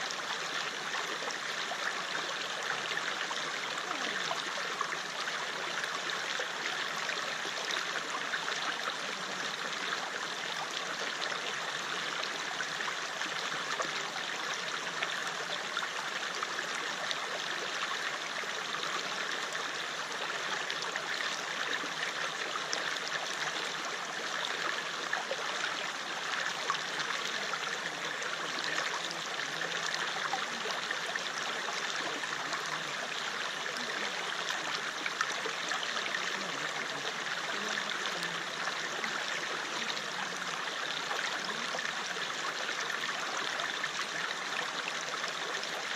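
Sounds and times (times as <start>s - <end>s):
river flowing over rocks: 0.0s - 45.9s.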